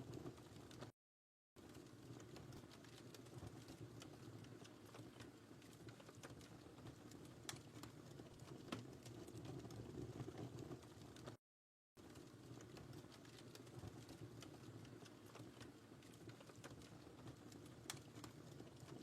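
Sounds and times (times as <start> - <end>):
wood fire crackling: 0.0 - 0.9, 1.6 - 11.4, 12.0 - 19.0.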